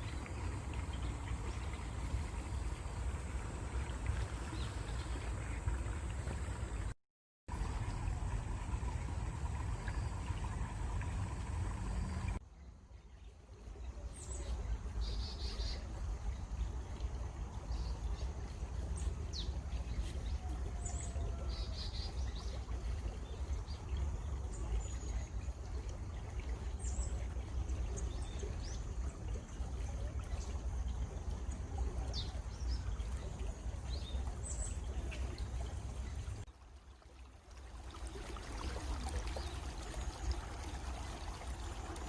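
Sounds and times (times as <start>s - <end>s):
stream water flowing: 0.0s - 42.0s.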